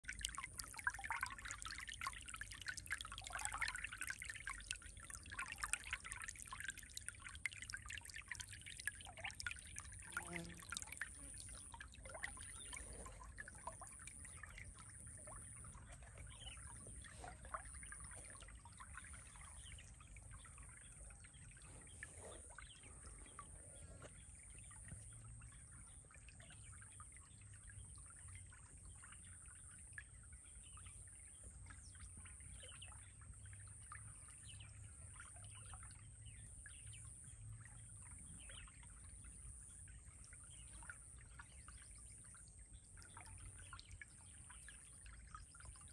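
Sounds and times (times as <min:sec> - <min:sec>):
stream trickling over stones: 0:00.0 - 0:45.9.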